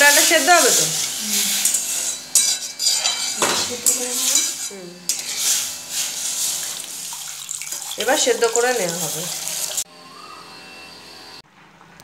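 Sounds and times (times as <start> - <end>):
metal spatula scraping a pan: 0.0 - 9.8.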